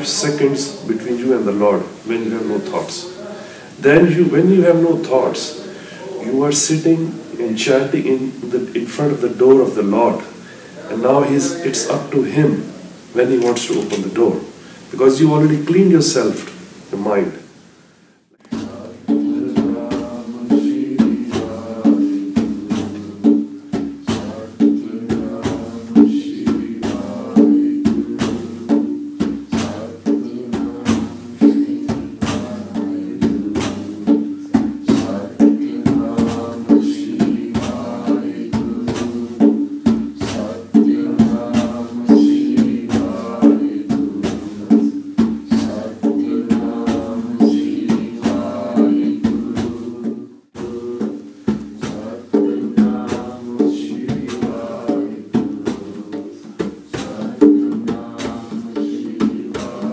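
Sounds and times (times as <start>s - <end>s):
hand drum: 0.0s - 14.5s, 18.4s - 59.9s
frame drum beaten: 0.0s - 17.4s, 18.4s - 59.9s.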